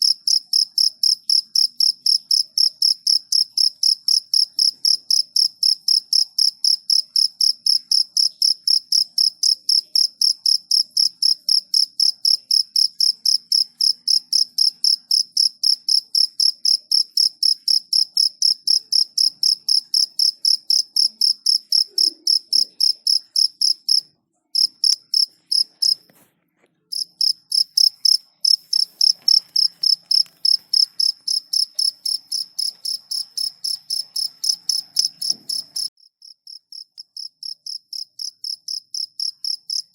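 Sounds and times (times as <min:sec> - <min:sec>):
cricket chirping: 0:00.0 - 0:26.1, 0:26.9 - 0:39.9.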